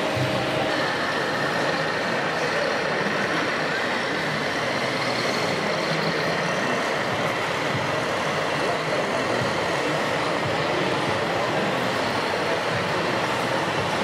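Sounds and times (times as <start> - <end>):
model tractor running with whine: 0.0 - 14.0.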